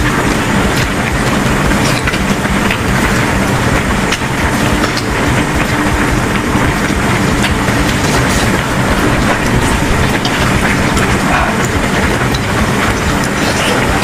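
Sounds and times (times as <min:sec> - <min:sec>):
loud vehicle rumble: 0:00.0 - 0:14.0.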